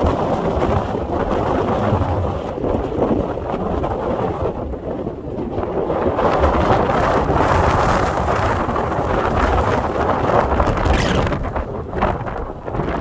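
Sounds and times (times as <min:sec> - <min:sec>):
blizzard wind roaring: 0:00.0 - 0:13.0.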